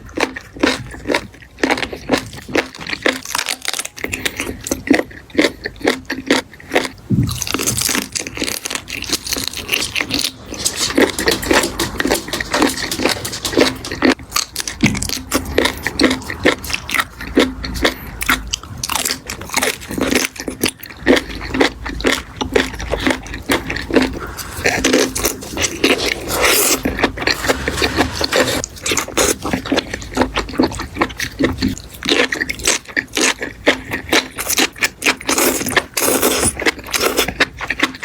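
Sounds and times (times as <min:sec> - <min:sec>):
crunchy food chewing: 0:00.0 - 0:38.0.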